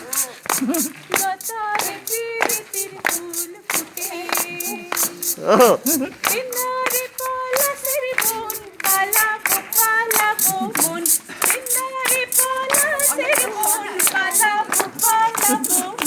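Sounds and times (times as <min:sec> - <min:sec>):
rhythmic hand clapping: 0:00.0 - 0:16.0
women singing folk song: 0:00.0 - 0:16.0.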